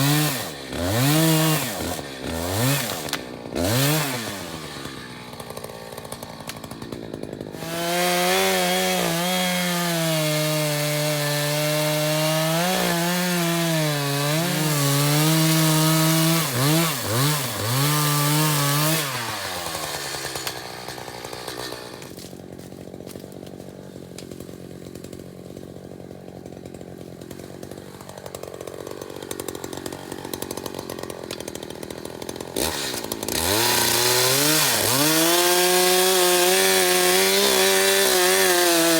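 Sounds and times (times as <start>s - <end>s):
chainsaw cutting wood: 0.0s - 38.9s
chainsaw idling and revving: 0.0s - 38.9s.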